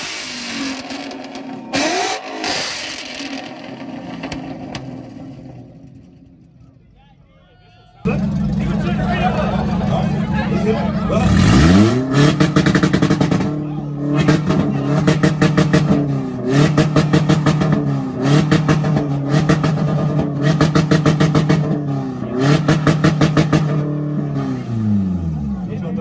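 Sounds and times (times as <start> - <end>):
car engine at rev limiter: 0.0 - 6.4, 8.1 - 26.0.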